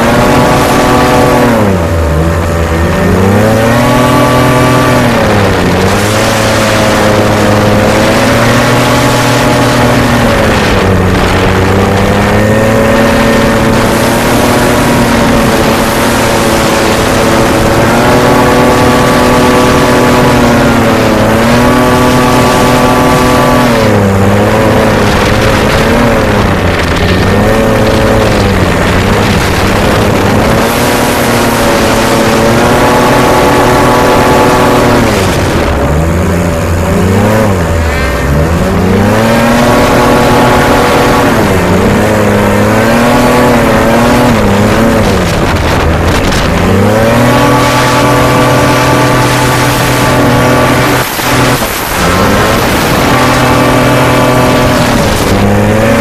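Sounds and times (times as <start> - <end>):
hovercraft engine running hard: 0.0 - 56.0.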